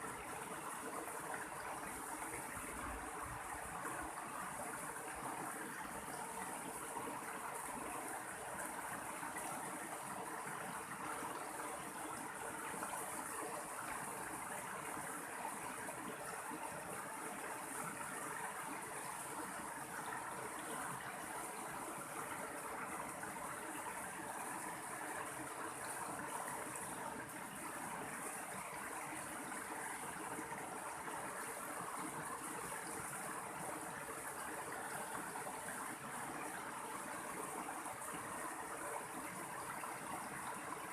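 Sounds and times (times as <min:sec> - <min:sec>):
stream water flowing over rocks: 0:00.0 - 0:40.9.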